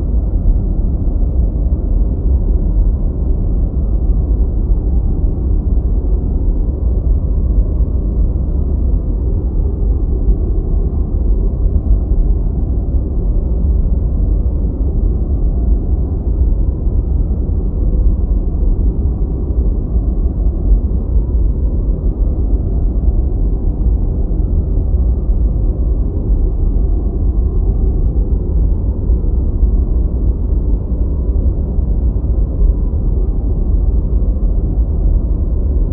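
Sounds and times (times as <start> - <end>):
deep white noise: 0.0 - 35.9.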